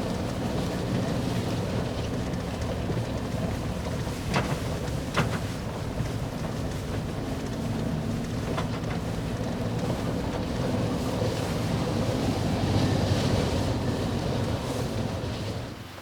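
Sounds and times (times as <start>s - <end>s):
car engine running: 0.0s - 15.8s.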